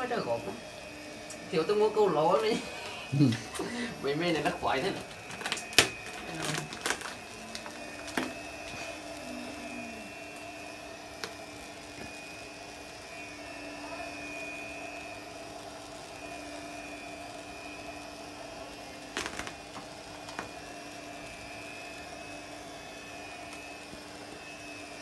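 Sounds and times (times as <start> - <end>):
small electric motor whirring: 0.0 - 25.0.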